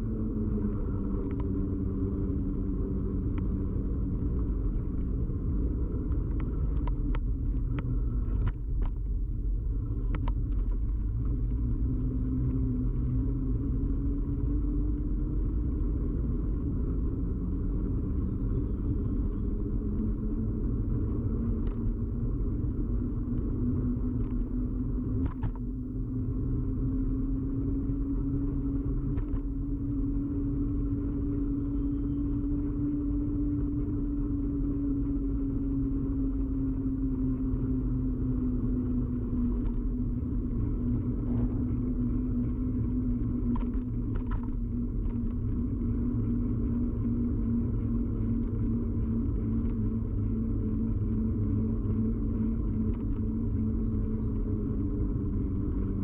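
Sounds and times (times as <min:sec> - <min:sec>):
rising hum: 0:00.0 - 0:56.0
tyre and road rumble: 0:00.0 - 0:56.0.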